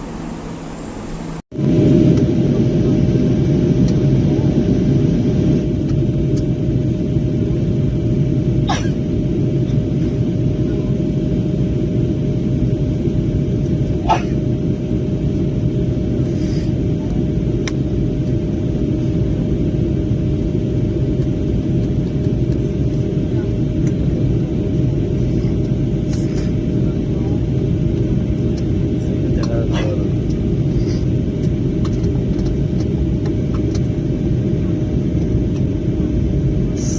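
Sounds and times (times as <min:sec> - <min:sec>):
jet engine cabin rumble: 0:00.0 - 0:36.9.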